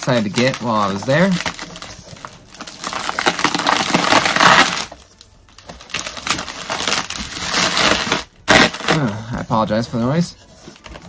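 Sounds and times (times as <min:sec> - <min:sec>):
packing material crinkling: 0:00.0 - 0:11.0.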